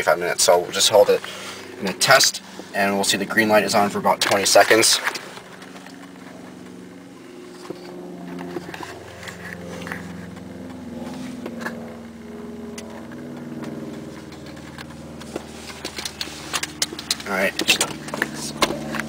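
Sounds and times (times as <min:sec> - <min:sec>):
steady engine drone: 0:00.0 - 0:19.0.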